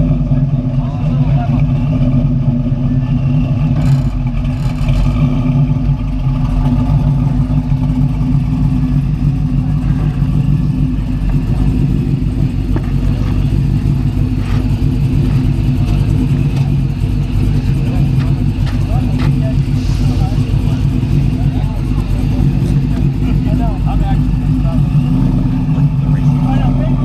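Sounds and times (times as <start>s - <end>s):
diesel engine running loud: 0.0s - 27.0s.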